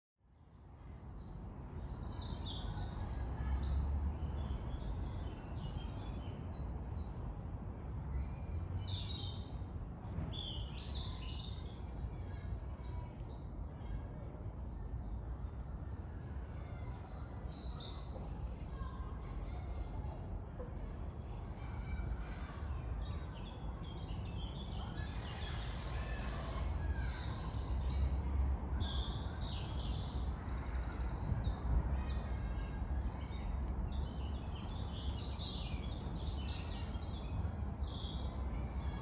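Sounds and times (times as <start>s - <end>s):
songbirds chirping and trilling: 0.2s - 39.0s.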